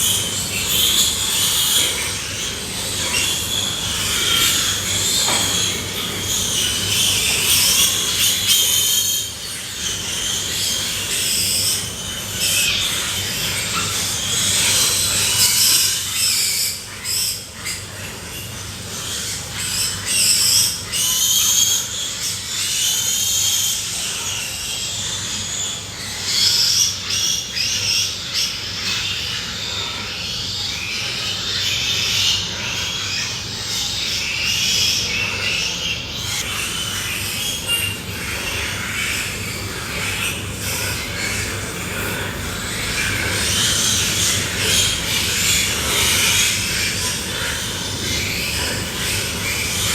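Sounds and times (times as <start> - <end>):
pigs squealing: 0.0 - 49.9
steady low hum: 0.0 - 49.9.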